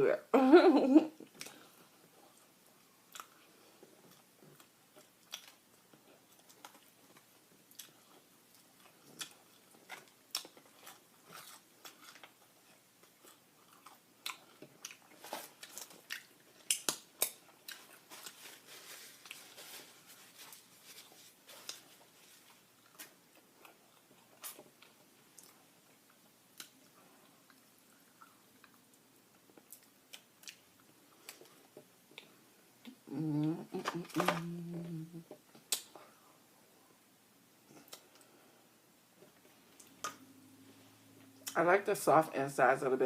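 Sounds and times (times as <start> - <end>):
person chewing food: 1.2 - 36.3, 37.7 - 38.6.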